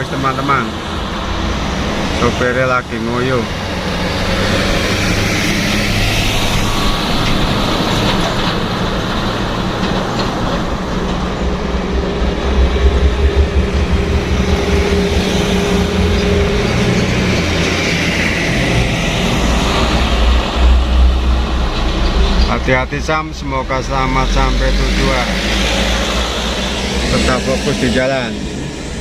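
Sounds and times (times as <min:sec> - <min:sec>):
truck diesel engine labouring: 0:00.0 - 0:29.0
tyre and road noise: 0:00.0 - 0:29.0.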